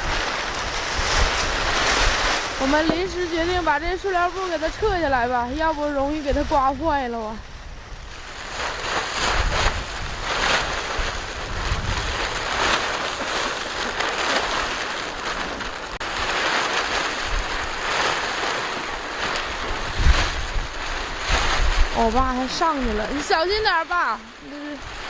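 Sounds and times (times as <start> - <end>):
gusting wind buffeting microphone: 0.0 - 25.0.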